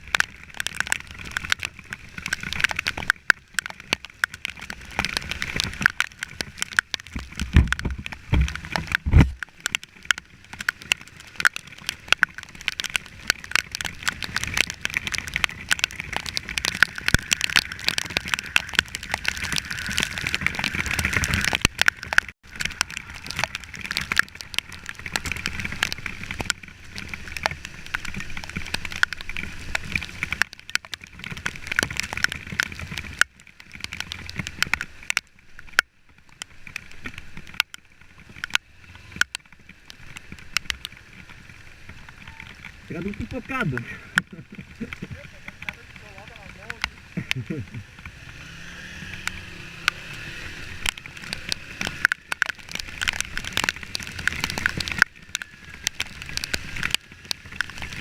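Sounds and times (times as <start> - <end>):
rain patter: 0.0 - 58.0.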